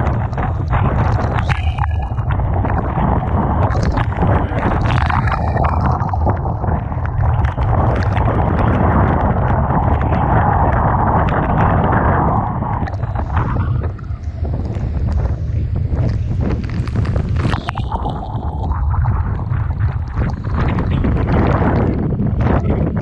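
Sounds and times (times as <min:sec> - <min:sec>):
crashing sea and surf: 0:00.0 - 0:23.0
heavy low rumble: 0:00.0 - 0:23.0
wind buffeting microphone: 0:00.0 - 0:23.0.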